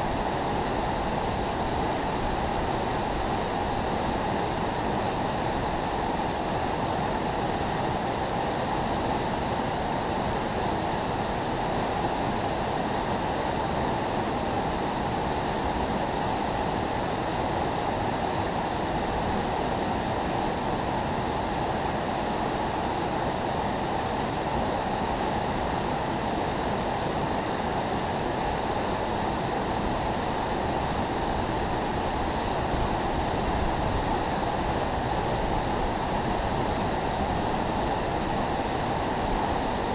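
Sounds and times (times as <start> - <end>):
river water rushing through spillway: 0.1 - 39.9.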